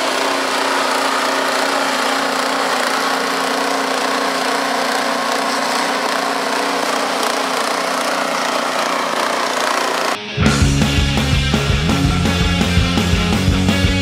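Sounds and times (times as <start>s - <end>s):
snowblower engine running: 0.0s - 14.0s.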